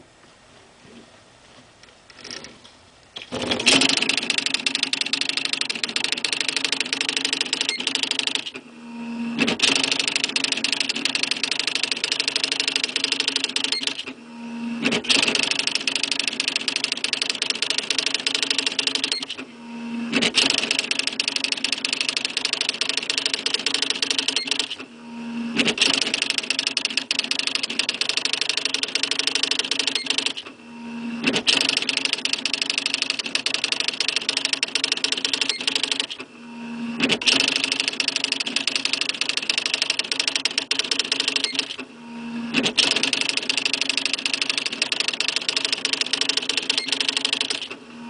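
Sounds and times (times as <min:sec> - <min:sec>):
typewriter carriage return: 0:03.2 - 0:08.6, 0:09.4 - 0:14.1, 0:14.8 - 0:19.4, 0:20.1 - 0:24.8, 0:25.6 - 0:30.4, 0:31.2 - 0:36.2, 0:37.0 - 0:41.8, 0:42.6 - 0:47.8
typewriter typing strikes: 0:03.2 - 0:08.6, 0:09.4 - 0:14.1, 0:14.8 - 0:19.4, 0:20.1 - 0:24.8, 0:25.6 - 0:30.4, 0:31.2 - 0:36.2, 0:37.0 - 0:41.8, 0:42.6 - 0:47.7.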